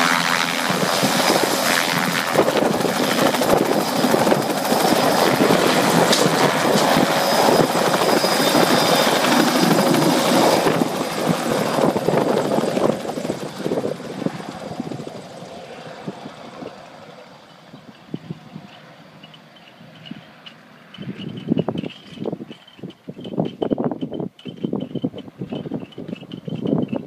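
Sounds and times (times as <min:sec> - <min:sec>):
helicopter turbine and rotor: 0:00.0 - 0:27.0.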